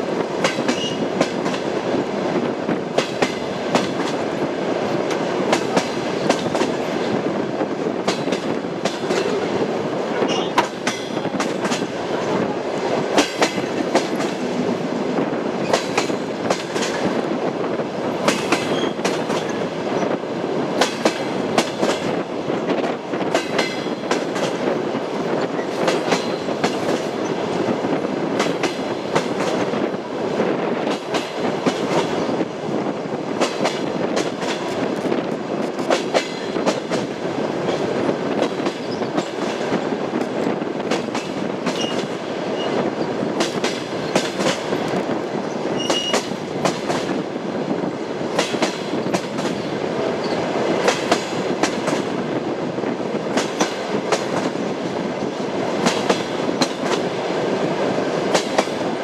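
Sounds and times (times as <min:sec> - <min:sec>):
train rolling rumble: 0:00.0 - 0:59.0
train wheels clickety-clack: 0:00.0 - 0:59.0.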